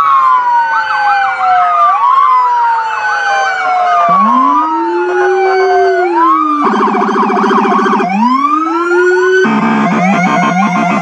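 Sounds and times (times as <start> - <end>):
emergency vehicle sirens wailing: 0.0 - 11.0
siren rapid yelp: 0.0 - 11.0.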